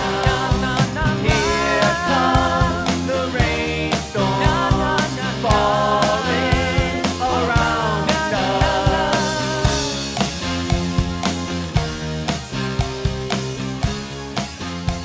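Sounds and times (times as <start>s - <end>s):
rock song: 0.0s - 15.0s.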